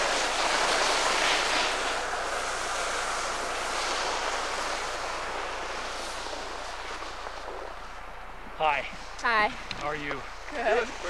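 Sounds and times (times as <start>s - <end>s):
skis sliding over packed snow: 0.0s - 9.0s, 9.7s - 11.0s.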